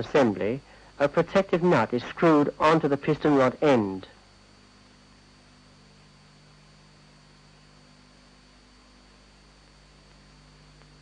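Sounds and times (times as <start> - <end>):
faint electrical hum: 0.0 - 11.0
thin high whine: 0.0 - 11.0.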